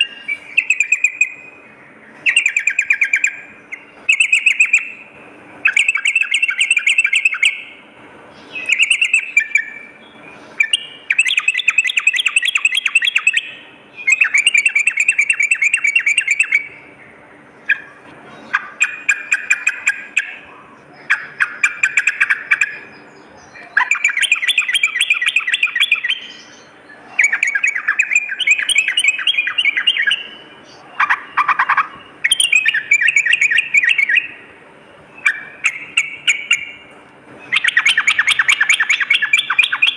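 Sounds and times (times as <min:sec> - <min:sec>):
bird singing bubbling chatter: 0:00.0 - 0:39.9.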